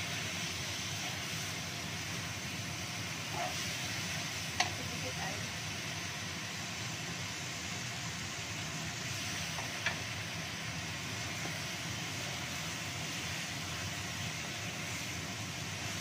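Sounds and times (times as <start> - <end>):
food simmering in a wok: 0.0 - 16.0.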